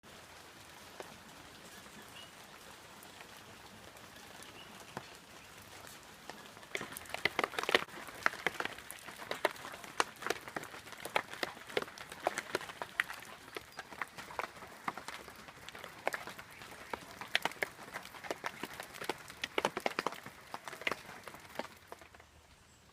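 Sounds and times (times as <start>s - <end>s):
raindrops striking hard surface: 0.0s - 22.7s
rain hiss: 0.0s - 22.8s.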